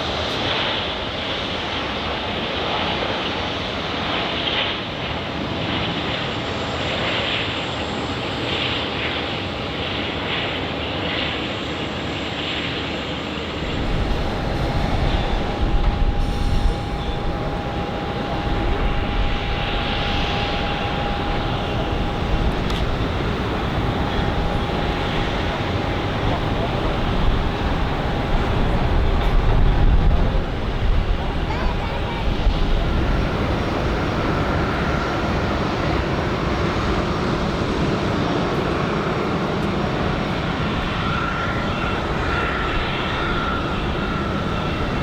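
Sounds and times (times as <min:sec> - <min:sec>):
jet engine whine: 0:00.0 - 0:45.0
jet engines rumbling: 0:00.0 - 0:45.0.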